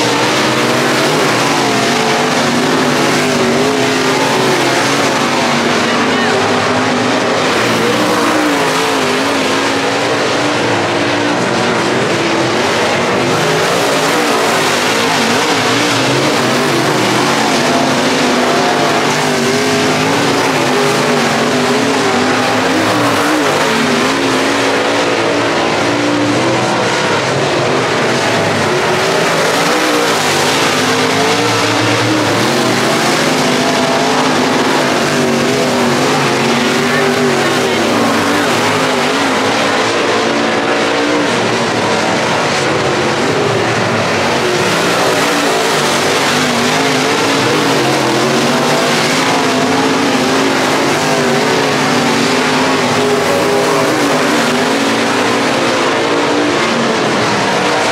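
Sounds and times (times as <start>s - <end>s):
race car engines revving: 0.0s - 57.9s.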